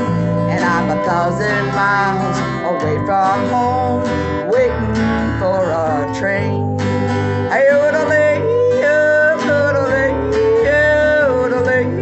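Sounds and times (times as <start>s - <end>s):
acoustic guitar strumming: 0.0s - 12.0s
sliding held melody line: 0.0s - 12.0s.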